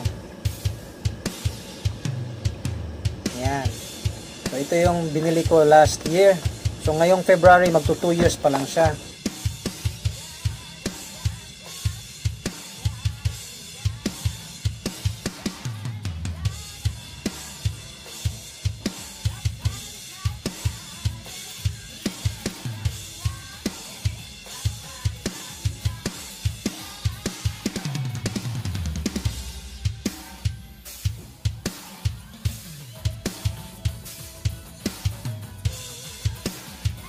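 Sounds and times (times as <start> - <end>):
music with drum beat: 0.0 - 37.0.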